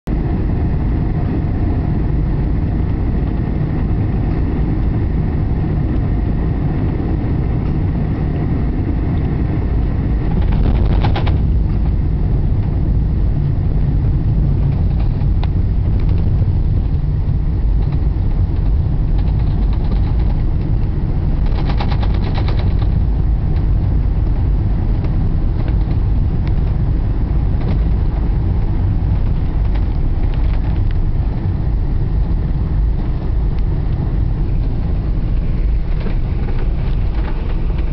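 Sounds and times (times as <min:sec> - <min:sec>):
airliner cabin rumble: 0:00.0 - 0:37.9
faint jet engine tones: 0:00.1 - 0:37.9.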